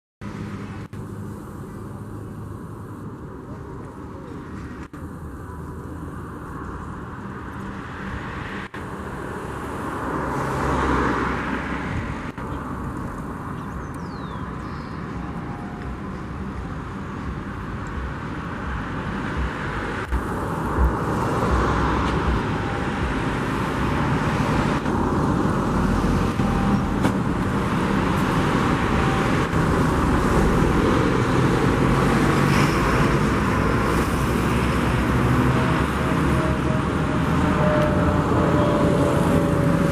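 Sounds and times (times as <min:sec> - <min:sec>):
road traffic rumble: 0:00.2 - 0:39.9.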